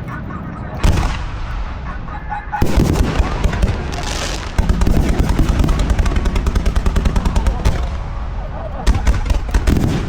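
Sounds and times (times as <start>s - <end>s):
fireworks bangs and crackles: 0.8s - 10.0s.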